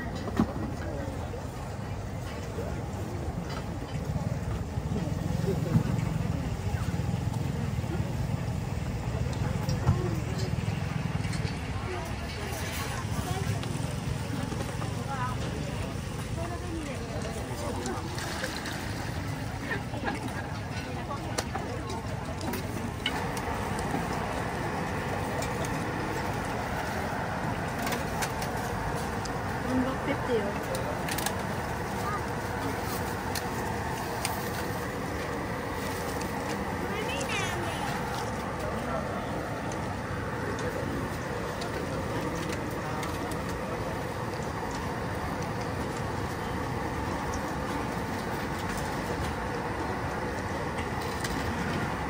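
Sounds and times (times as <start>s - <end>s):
night market background noise: 0.0s - 52.0s.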